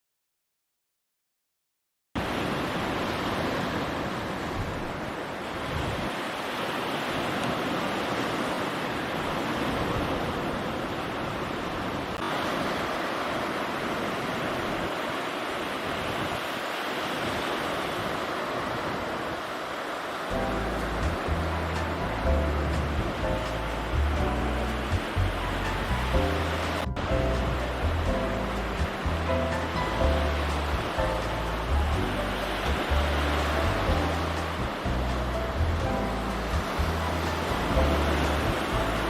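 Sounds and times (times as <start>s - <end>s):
waves washing on shore: 2.2s - 39.0s
wind gusting on microphone: 2.2s - 39.0s.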